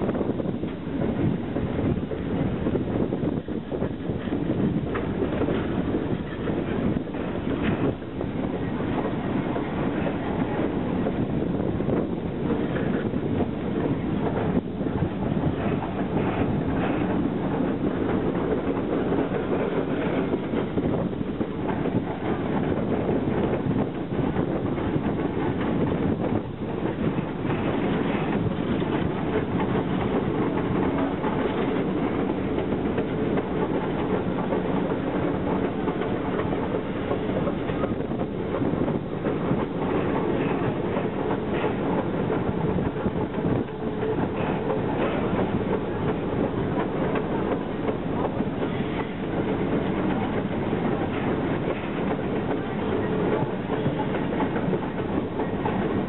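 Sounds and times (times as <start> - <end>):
train rumbling and clattering on track: 0.0 - 56.0.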